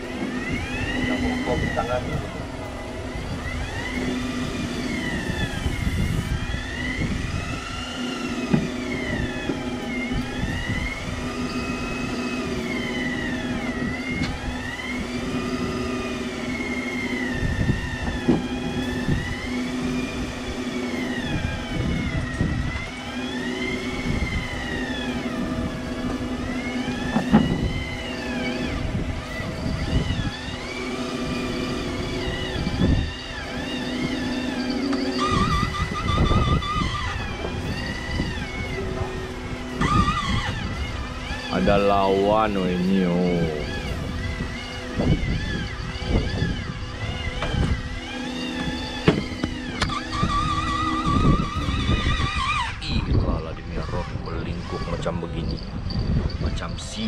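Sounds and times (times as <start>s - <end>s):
electric fishing reel whine: 0.0s - 57.0s
steady low hum: 0.0s - 57.0s.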